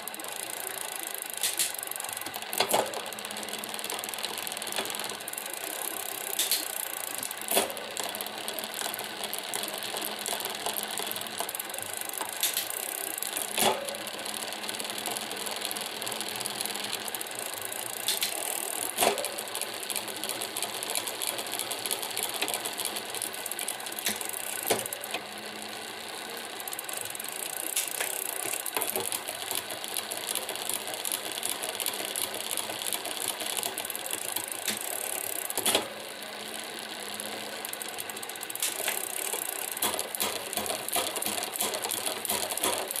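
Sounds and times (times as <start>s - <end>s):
bike derailleur rattling: 0.0s - 43.0s
sharp drivetrain clicks: 0.0s - 43.0s.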